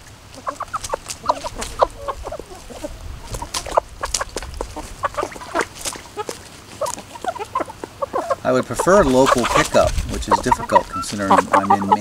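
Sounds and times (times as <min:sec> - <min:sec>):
chickens clucking: 0:00.0 - 0:12.0
pecking and scratching in dry leaves: 0:00.0 - 0:12.0.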